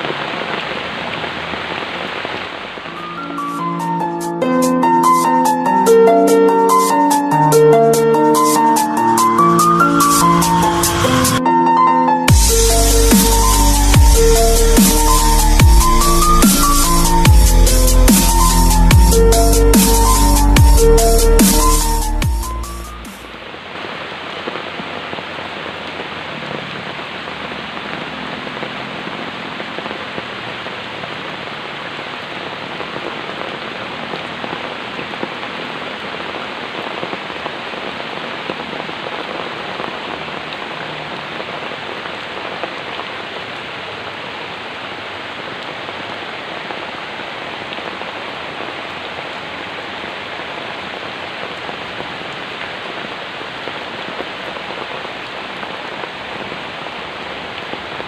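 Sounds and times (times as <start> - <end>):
heavy rain hissing: 0.0 - 11.5, 12.3 - 58.0.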